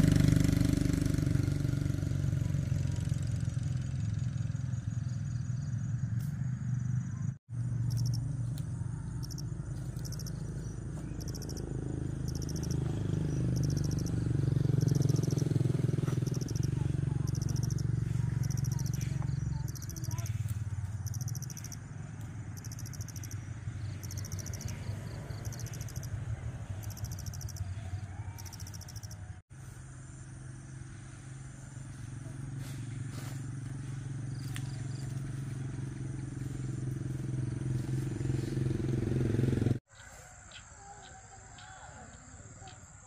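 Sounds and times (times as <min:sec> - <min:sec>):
low engine hum: 0:00.0 - 0:39.9
insects chirping: 0:03.0 - 0:43.0.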